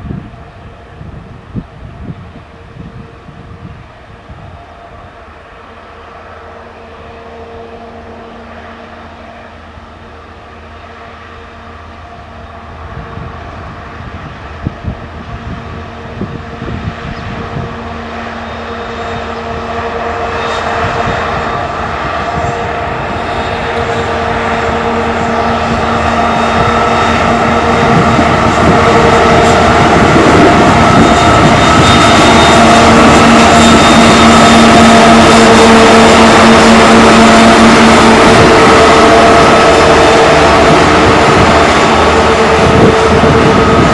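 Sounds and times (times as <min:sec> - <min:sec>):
diesel locomotive engine drone: 0:00.0 - 0:43.9.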